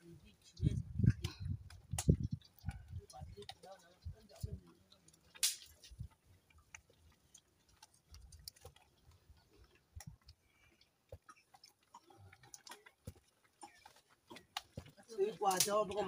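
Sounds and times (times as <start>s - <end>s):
stick stirring porridge in pot: 0.9s - 16.0s.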